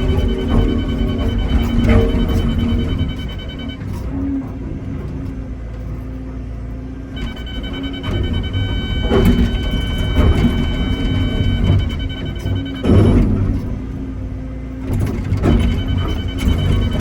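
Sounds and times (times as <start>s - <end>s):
excavator diesel engine: 0.0s - 17.0s
hydraulic whine: 0.0s - 17.0s.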